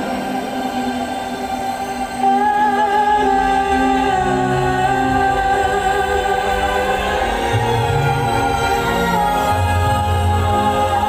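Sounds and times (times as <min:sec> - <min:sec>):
choir-like singing: 0:00.0 - 0:11.0.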